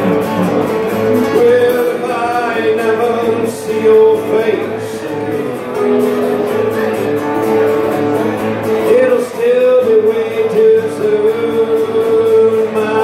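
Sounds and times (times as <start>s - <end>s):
strummed acoustic guitar: 0.0s - 13.0s
man singing: 0.1s - 6.6s, 8.6s - 13.0s.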